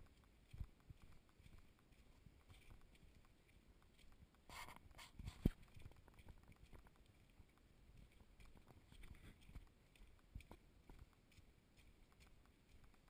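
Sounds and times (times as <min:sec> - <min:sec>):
footsteps on dirt trail: 0:00.0 - 0:13.0.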